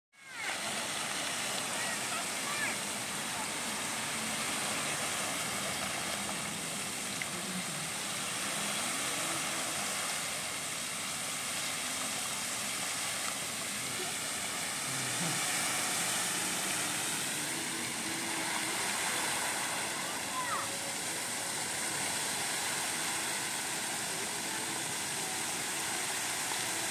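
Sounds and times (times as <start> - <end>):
fountain water jets splashing: 0.2 - 26.9.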